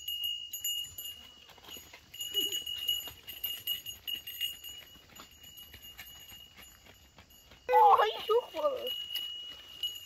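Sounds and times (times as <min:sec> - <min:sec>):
goat bells jingling: 0:00.0 - 0:10.0
hooves on dry ground: 0:00.0 - 0:10.0.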